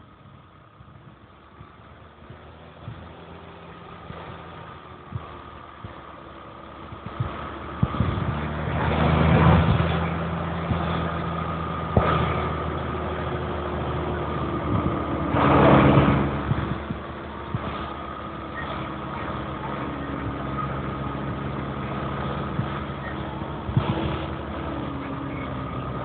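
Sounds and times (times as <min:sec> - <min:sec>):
diesel tractor engines running: 0:00.0 - 0:26.0.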